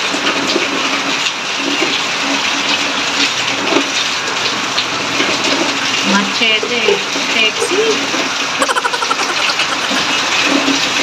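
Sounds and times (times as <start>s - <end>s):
heavy rain falling: 0.0s - 11.0s
rainwater streaming off a roof: 0.0s - 11.0s.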